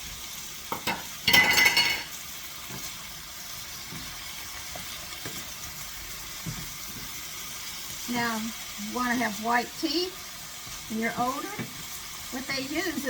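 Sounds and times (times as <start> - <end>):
burst of sizzle: 0.0 - 13.0
steady frying hiss: 0.0 - 13.0.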